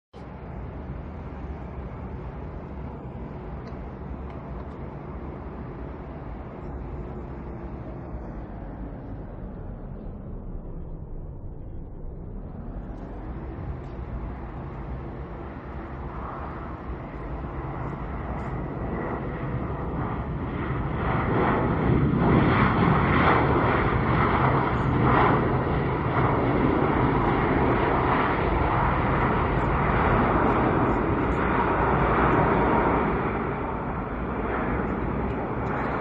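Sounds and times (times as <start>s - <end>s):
jet engine noise: 0.2s - 36.0s.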